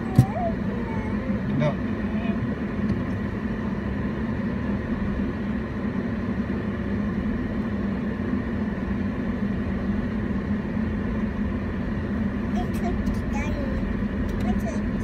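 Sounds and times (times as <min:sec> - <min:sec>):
car engine humming inside cabin: 0:00.0 - 0:15.0.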